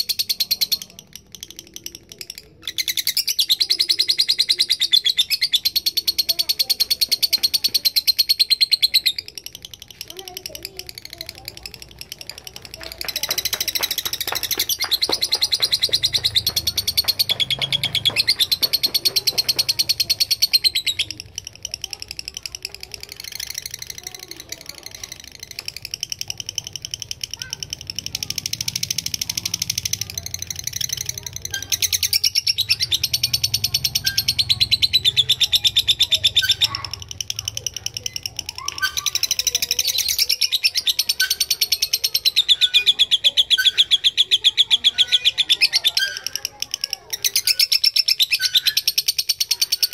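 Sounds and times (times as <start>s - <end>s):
lovebird chattering song: 0.0s - 49.9s.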